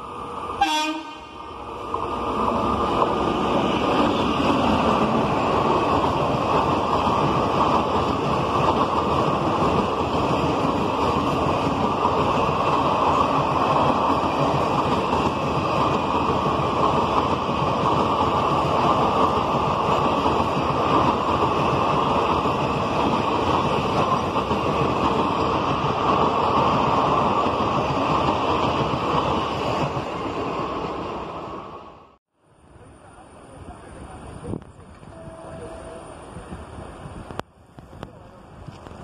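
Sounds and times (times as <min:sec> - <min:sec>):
train wheels roaring on rails: 0:00.0 - 0:39.0.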